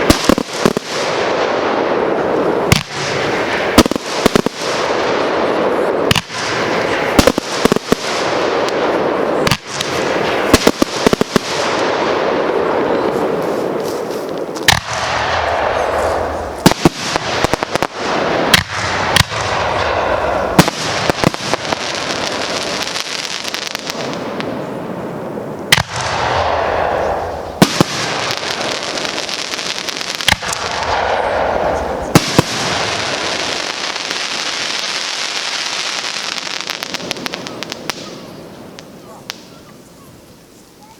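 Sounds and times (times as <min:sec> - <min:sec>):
fireworks bangs: 0:00.0 - 0:39.9
fireworks hiss: 0:00.0 - 0:40.9.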